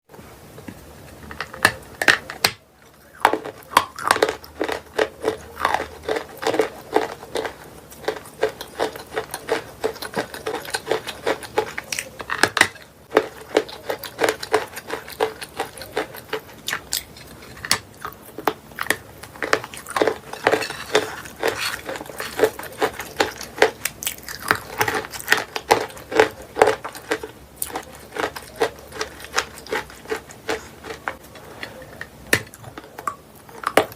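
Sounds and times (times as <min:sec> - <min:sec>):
crunchy chalk chewing: 0:00.7 - 0:33.9.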